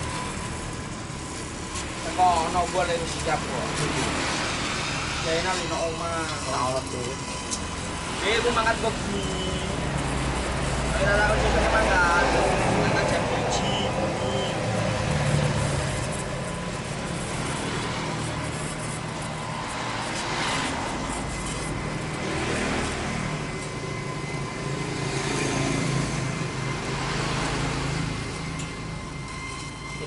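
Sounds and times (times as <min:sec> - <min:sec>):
welding torch flame hissing: 0:00.0 - 0:29.9.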